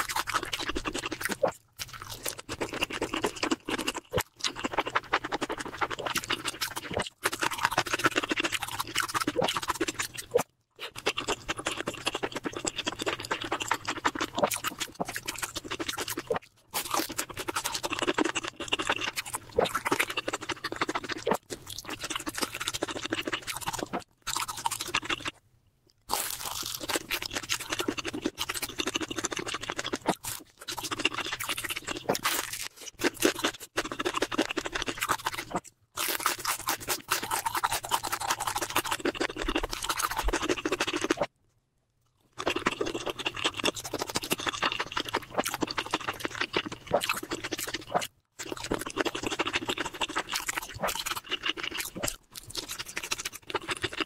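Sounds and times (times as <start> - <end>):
wet mouth sounds: 0.0 - 25.4, 26.1 - 41.3, 42.3 - 54.0
person chewing: 0.0 - 41.3, 42.0 - 54.0.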